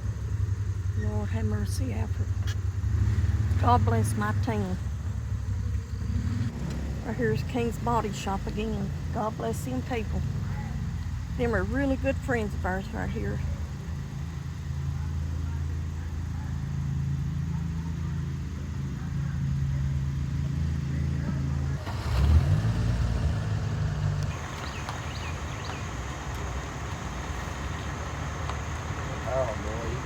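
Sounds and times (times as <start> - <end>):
car engine humming: 0.0 - 30.0
road noise hiss: 0.0 - 30.0.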